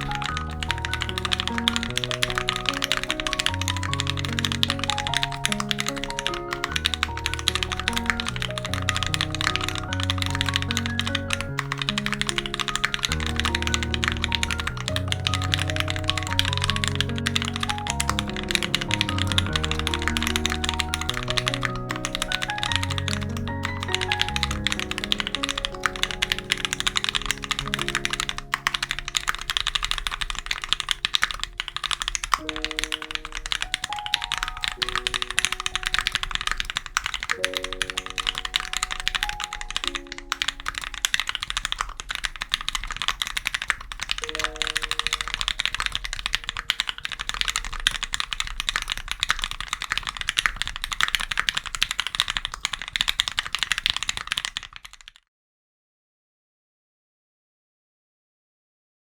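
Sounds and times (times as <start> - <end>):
gentle background music: 0.0 - 50.5
mechanical keyboard typing: 0.0 - 55.2.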